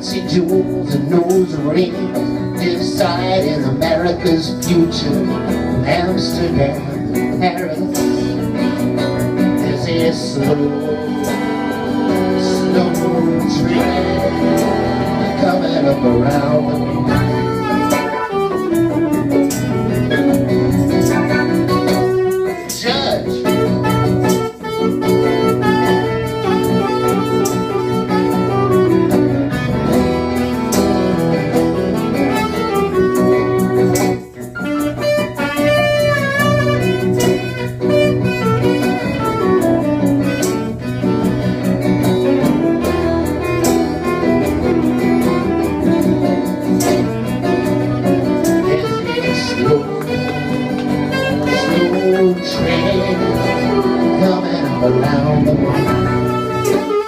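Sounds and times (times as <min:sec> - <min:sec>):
live blues-rock band playing: 0:00.0 - 0:57.0
strummed guitar: 0:00.0 - 0:57.0
tenor saxophone: 0:00.0 - 0:57.0.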